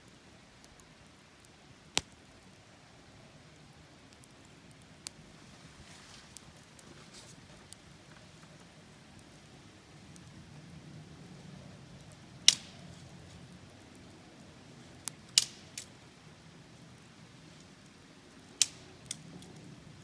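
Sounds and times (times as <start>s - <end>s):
campfire crackling: 0.0s - 20.0s
burning wood popping: 0.1s - 20.0s.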